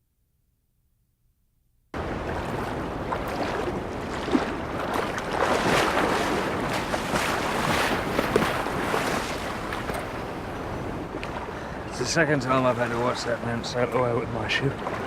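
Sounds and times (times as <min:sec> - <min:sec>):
wind: 0:01.9 - 0:15.0
sea surf: 0:02.0 - 0:15.0.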